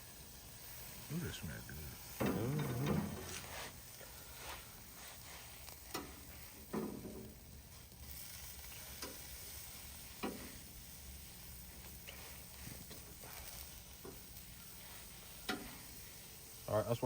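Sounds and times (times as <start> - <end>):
meat sizzling in butter: 0.0 - 17.0.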